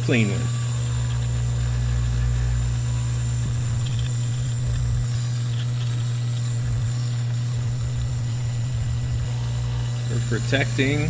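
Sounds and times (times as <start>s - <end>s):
rotary tool buffing metal: 0.0s - 11.0s.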